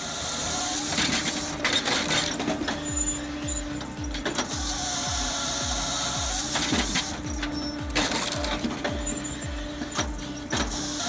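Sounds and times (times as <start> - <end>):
machine humming: 0.0 - 11.0
rapid mechanical clatter: 0.0 - 11.0
low thumps: 0.5 - 11.0.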